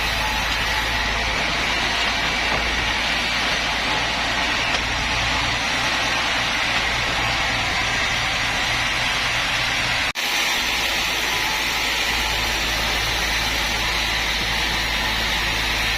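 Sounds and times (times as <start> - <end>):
sawmill machinery running: 0.0 - 15.9.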